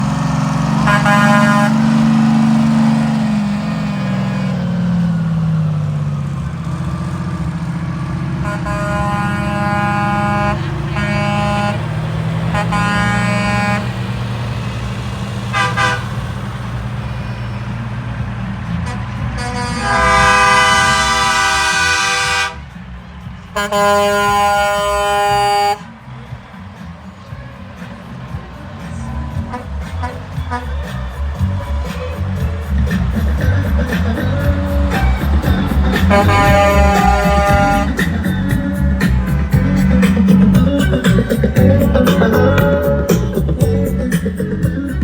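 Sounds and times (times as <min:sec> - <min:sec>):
trucks driving past: 0:00.0 - 0:45.0
truck air horn blasts: 0:00.2 - 0:04.6, 0:08.1 - 0:17.9, 0:18.6 - 0:22.8, 0:23.5 - 0:26.7, 0:27.8 - 0:42.9.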